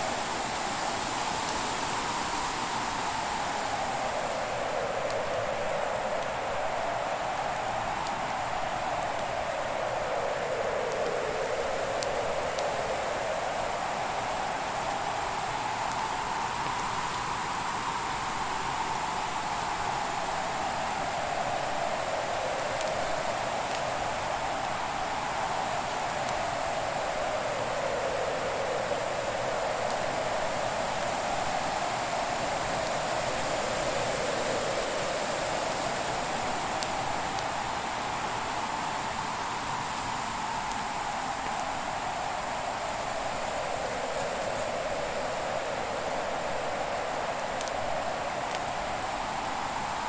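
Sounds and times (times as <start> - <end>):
fire crackles: 2.9 - 50.0.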